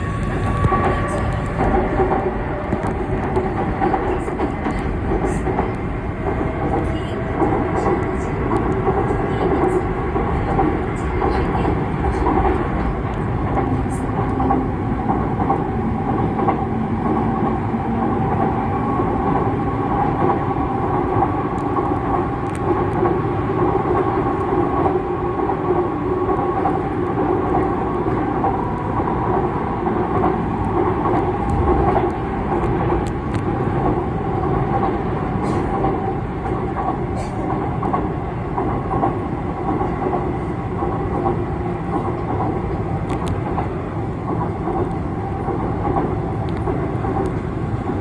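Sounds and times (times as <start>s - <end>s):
wheels rumbling on track: 0.0s - 48.0s.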